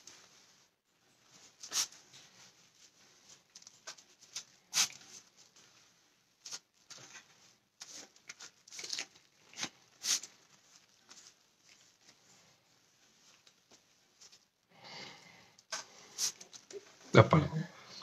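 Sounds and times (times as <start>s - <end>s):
paper towel rustling on skin: 0.0s - 14.6s.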